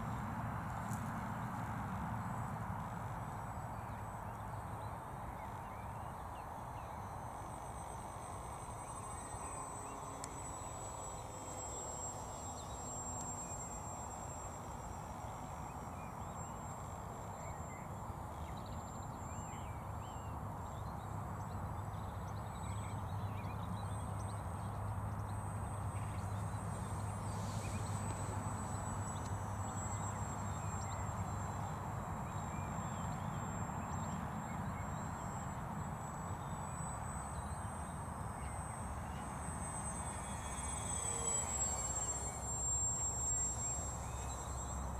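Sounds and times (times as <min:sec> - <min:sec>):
rc plane high whine: 0:00.0 - 0:44.9.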